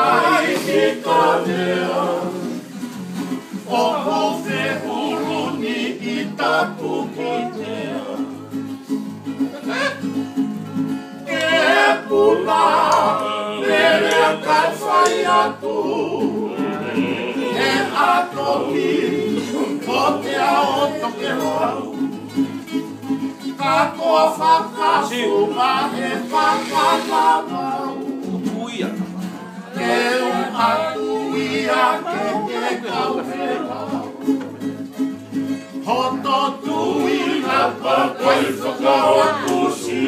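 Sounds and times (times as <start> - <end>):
men singing: 0.0 - 2.8, 3.4 - 8.7, 11.2 - 34.8, 35.4 - 40.0
acoustic guitars strumming chords: 0.0 - 40.0.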